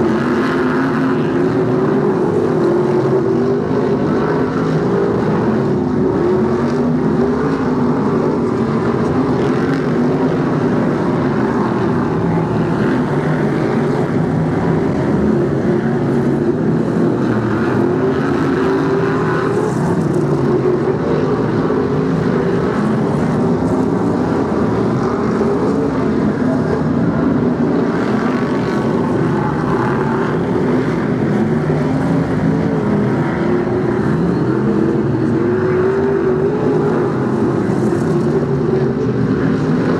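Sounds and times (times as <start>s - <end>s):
racing car engines: 0.0s - 39.9s.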